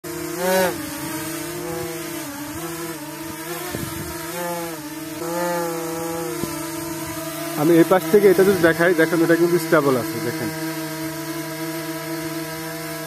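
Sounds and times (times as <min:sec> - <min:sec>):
drone propellers buzzing whine: 0:00.0 - 0:13.0.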